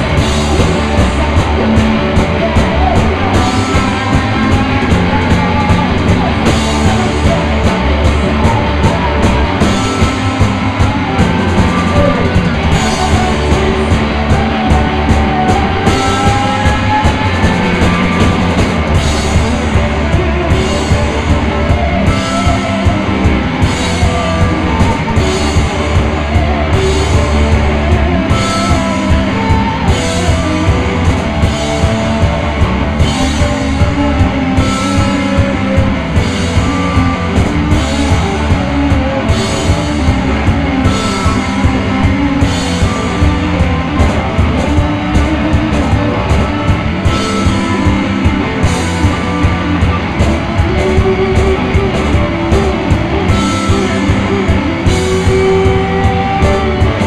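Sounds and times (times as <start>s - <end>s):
drum kit with cymbals: 0.0s - 57.0s
electric guitars: 0.0s - 57.0s.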